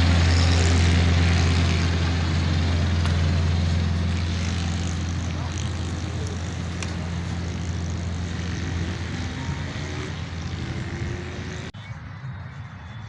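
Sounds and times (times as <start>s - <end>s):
dense noisy din: 0.0s - 13.0s.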